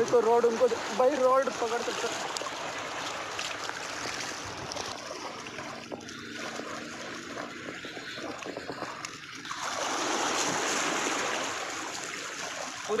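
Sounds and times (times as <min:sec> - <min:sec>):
fish splashing in water: 0:00.0 - 0:13.0
small waves washing: 0:00.0 - 0:13.0.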